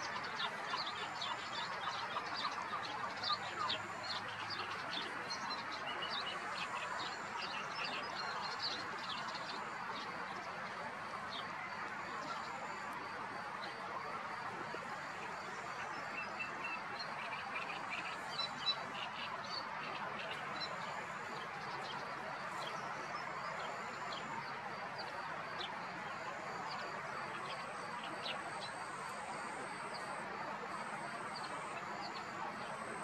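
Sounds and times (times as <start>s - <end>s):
faint high-pitched tones: 0.0s - 33.0s.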